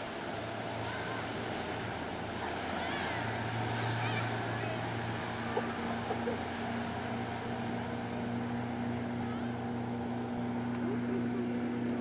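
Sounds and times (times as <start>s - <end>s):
motorboat engine humming: 0.0s - 12.0s
rushing wind and water: 0.0s - 12.0s.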